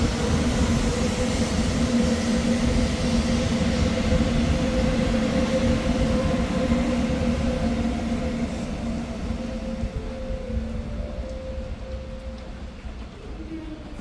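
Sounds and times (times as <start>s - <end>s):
train electric motor hum: 0.0s - 14.0s
train rumble: 0.0s - 14.0s.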